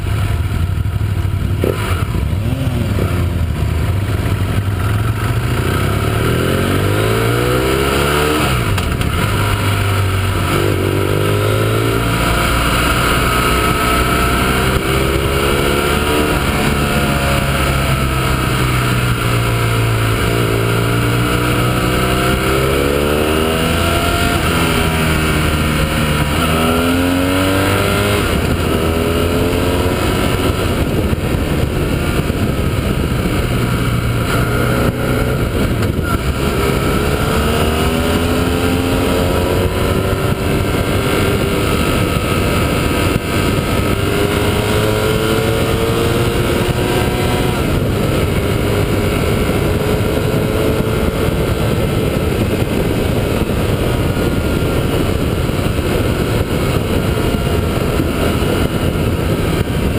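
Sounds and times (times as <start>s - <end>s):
motorcycle engine shifting gears: 0.0s - 59.9s
wind rush: 0.0s - 59.9s.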